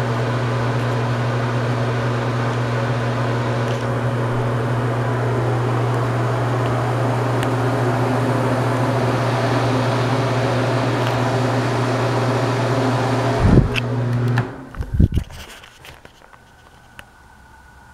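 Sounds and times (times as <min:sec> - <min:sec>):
exhaust fan humming: 0:00.0 - 0:17.9.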